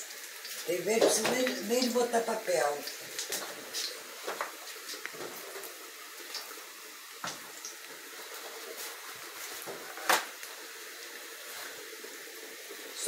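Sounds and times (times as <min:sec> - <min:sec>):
fritters sizzling in hot oil: 0:00.0 - 0:13.0.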